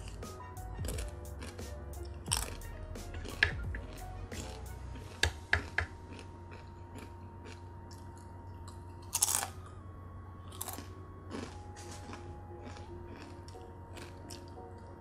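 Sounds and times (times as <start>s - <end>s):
crunching fried chicken skin: 0.0s - 9.8s, 10.4s - 15.0s.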